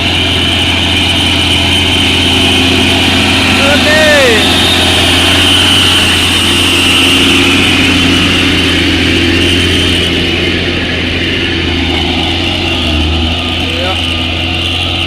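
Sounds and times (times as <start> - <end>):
truck diesel engine pulling uphill: 0.0 - 15.0.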